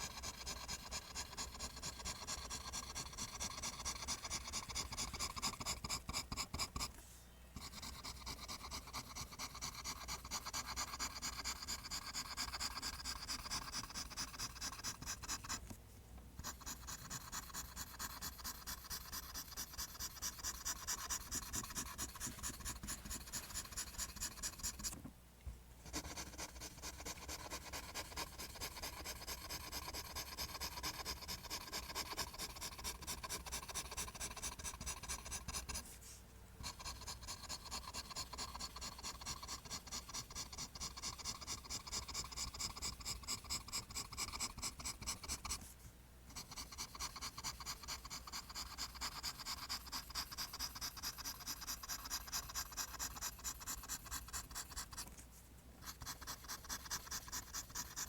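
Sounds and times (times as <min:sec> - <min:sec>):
pencil drawing on paper: 0:00.0 - 0:06.9, 0:07.6 - 0:15.7, 0:16.4 - 0:25.0, 0:25.9 - 0:36.0, 0:36.6 - 0:45.7, 0:46.3 - 0:55.2, 0:55.8 - 0:58.0.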